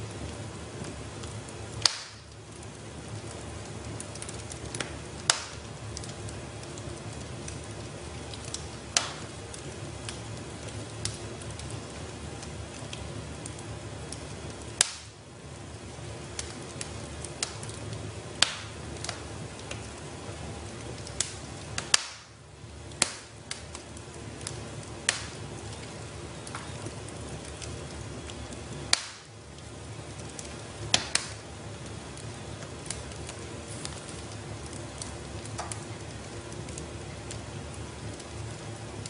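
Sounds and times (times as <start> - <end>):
fire popping and snapping: 0.0 - 39.0
low rumble of burning: 0.0 - 39.0.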